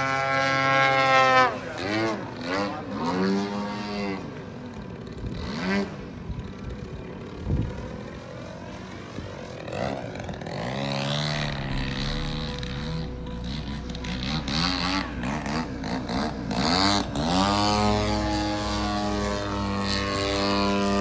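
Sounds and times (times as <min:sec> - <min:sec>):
model airplane engine: 0:00.0 - 0:21.0.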